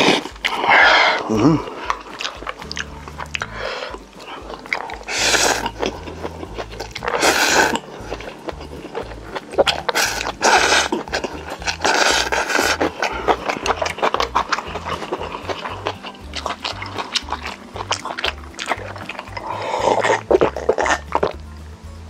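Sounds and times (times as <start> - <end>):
wet chewing clicks: 0.0 - 21.5
crunching crispy food: 0.0 - 21.6.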